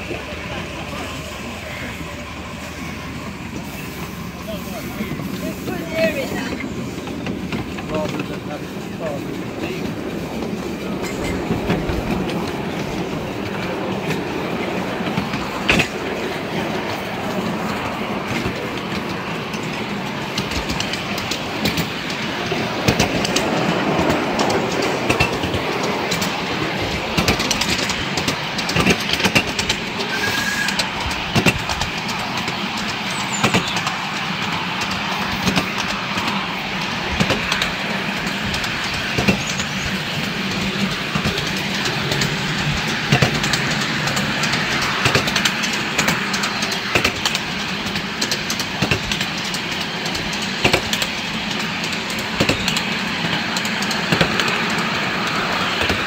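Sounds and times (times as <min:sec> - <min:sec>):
wheels clicking over rail joints: 0:03.2 - 0:56.0
small wheels rolling on rails: 0:04.5 - 0:56.0.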